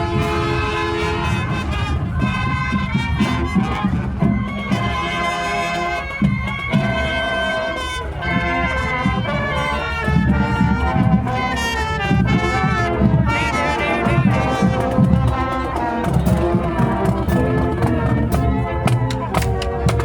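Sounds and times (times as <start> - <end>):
marching band playing brass music: 0.0 - 20.0.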